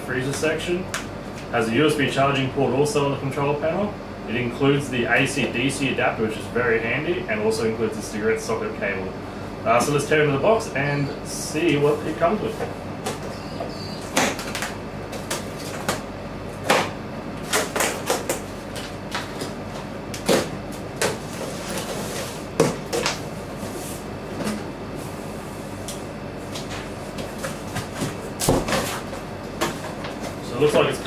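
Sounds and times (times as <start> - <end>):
air conditioner hiss: 0.0 - 31.0.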